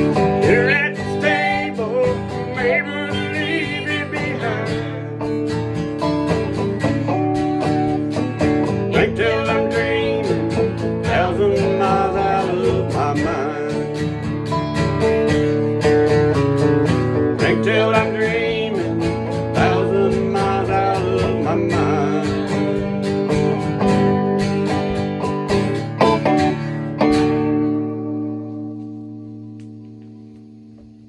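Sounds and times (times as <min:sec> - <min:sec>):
bending guitar melody notes: 0:00.0 - 0:31.0
country music: 0:00.0 - 0:31.0
strummed acoustic guitar: 0:00.0 - 0:31.0.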